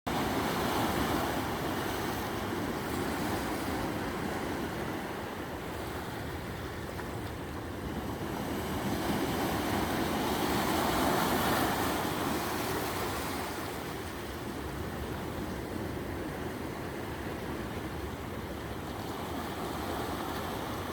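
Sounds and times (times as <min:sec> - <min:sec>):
sea waves breaking on shore: 0:00.1 - 0:20.9.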